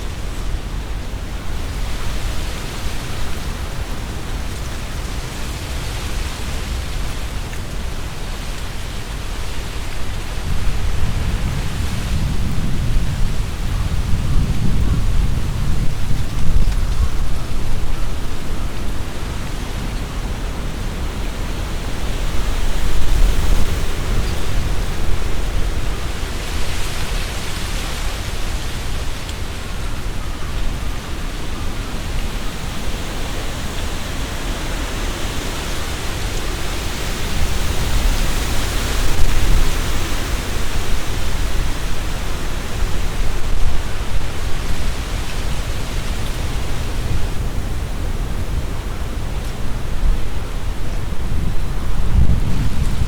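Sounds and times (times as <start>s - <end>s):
gusty wind through trees: 0.0s - 53.0s
leaves rustling: 0.0s - 53.0s
wind buffeting microphone: 0.0s - 53.0s.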